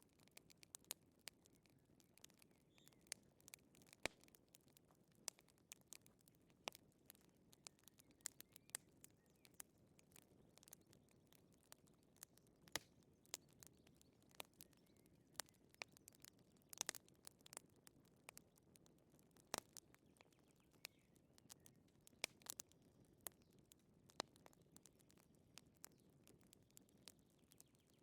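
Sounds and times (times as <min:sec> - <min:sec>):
soft low hiss of fire: 0:00.0 - 0:28.0
wood fire crackling: 0:00.0 - 0:28.0.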